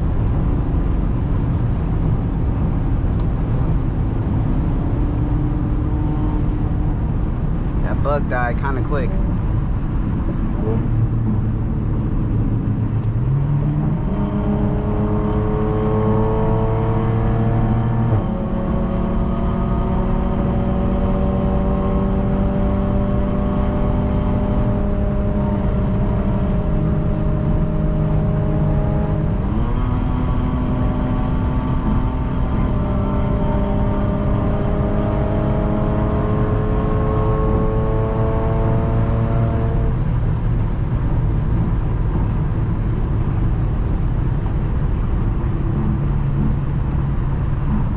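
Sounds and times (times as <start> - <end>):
car exhaust accelerating: 0.0 - 47.9.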